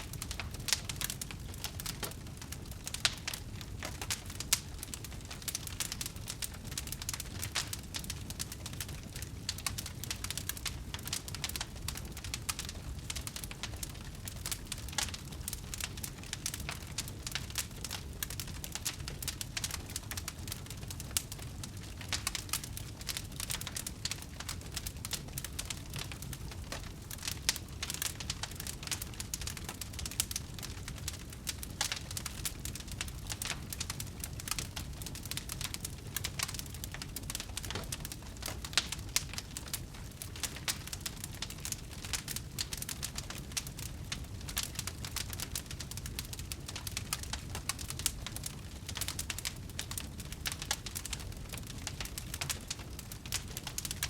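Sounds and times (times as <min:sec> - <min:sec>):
low steady fire rumble: 0:00.0 - 0:54.0
wood fire crackling and popping: 0:00.0 - 0:54.0.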